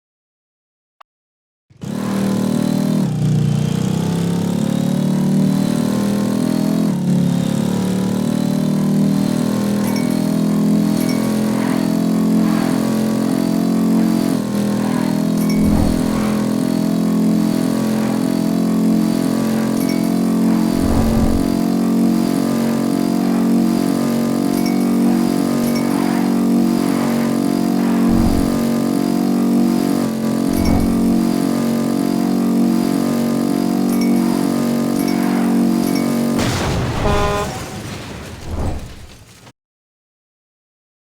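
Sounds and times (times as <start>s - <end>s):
motorcycle engine running: 1.7s - 36.4s.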